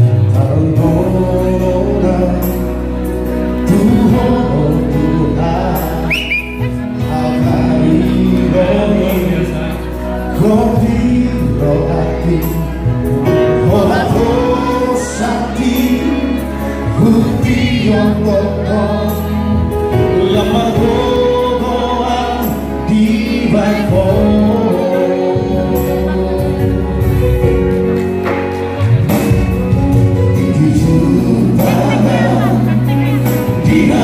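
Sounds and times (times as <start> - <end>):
men singing in harmony: 0.0 - 27.7, 30.3 - 34.0.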